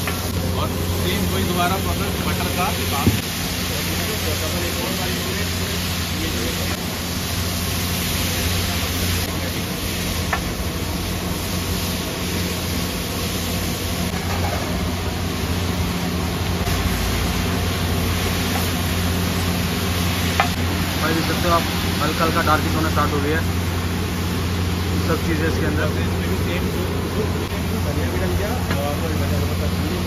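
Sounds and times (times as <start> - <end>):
roadside street noise: 0.0 - 30.0.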